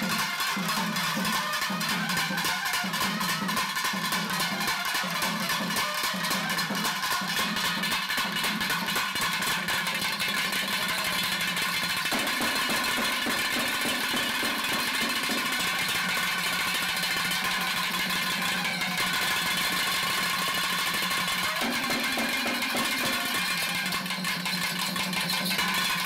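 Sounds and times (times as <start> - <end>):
double-headed drum beating: 0.0 - 26.0.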